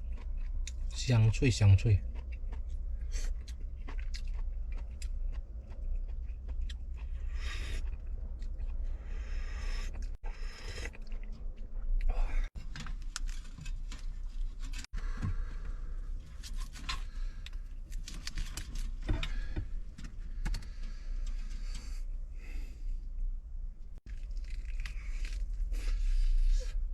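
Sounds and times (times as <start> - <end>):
person chewing crunchy food: 0.0 - 1.0, 1.7 - 19.6, 24.0 - 26.8
steady low rumble: 0.0 - 26.9.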